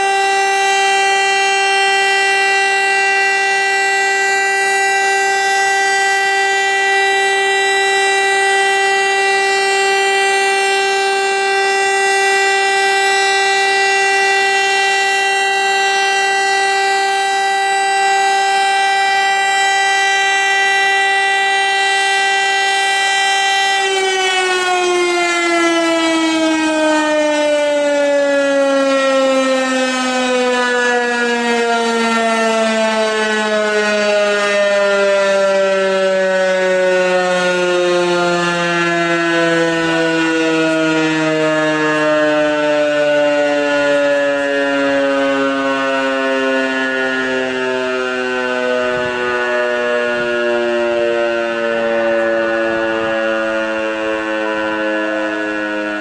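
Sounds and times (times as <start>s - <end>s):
electric siren steady tone: 0.0s - 56.0s
siren rotor winding down: 0.0s - 56.0s.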